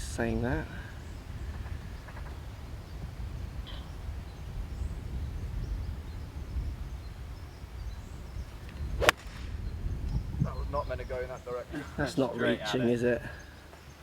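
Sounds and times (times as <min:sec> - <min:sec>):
wind rumbling on microphone: 0:00.0 - 0:12.0
faint outdoor ambience: 0:00.0 - 0:14.0
faint chirp: 0:00.7 - 0:12.0.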